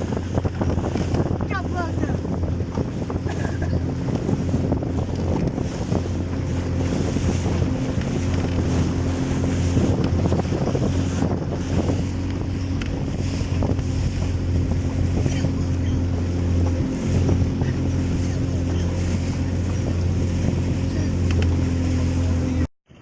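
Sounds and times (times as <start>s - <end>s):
wind buffeting microphone: 0.0s - 22.7s
motorboat engine running: 0.0s - 23.0s.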